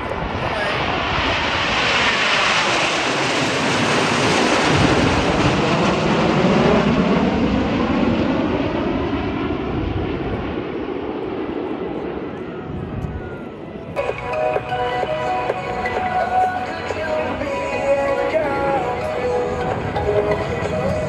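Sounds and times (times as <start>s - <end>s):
jets passing overhead: 0.0s - 21.0s.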